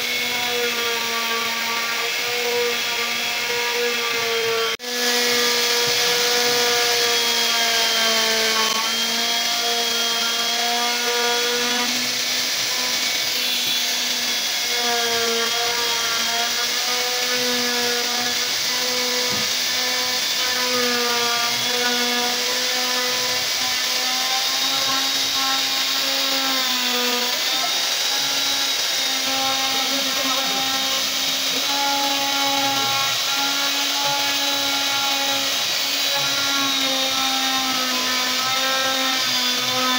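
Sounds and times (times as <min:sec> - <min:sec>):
router whining cutting wood: 0:00.0 - 0:39.9.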